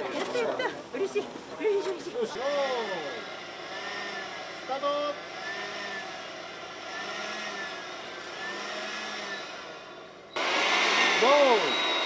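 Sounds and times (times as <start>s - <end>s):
electric blower whining: 2.2s - 12.0s.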